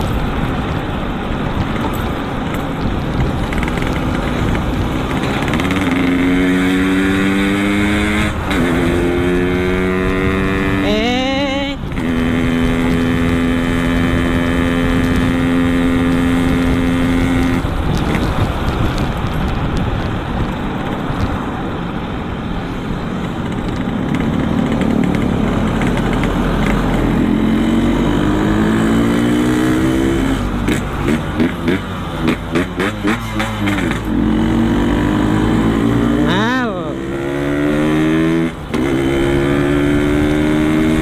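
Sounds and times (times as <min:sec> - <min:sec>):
motorcycle engine: 0:00.0 - 0:41.0
wind and road noise: 0:00.0 - 0:41.0.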